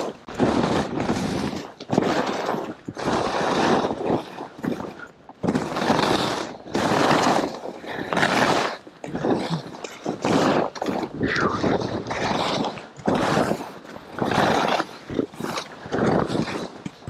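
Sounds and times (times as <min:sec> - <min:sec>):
skis scraping through snow: 0:00.0 - 0:17.0.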